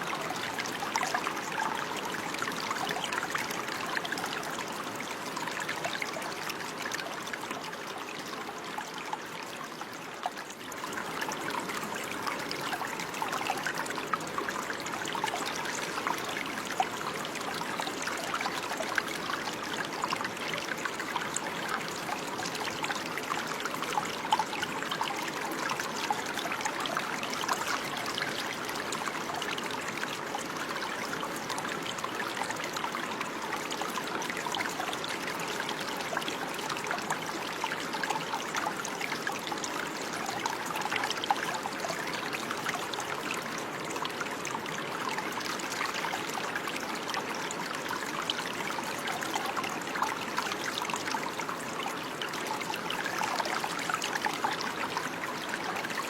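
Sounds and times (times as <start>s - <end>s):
stream bubbling: 0.0s - 56.0s.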